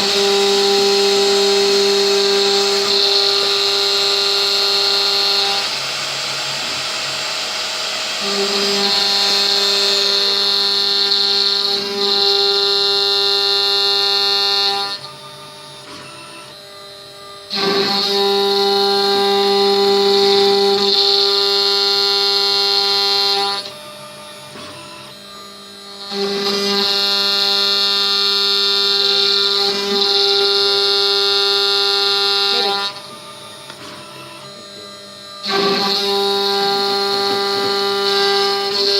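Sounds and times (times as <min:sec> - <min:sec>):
router spindle whining while cutting wood: 0:00.0 - 0:38.9.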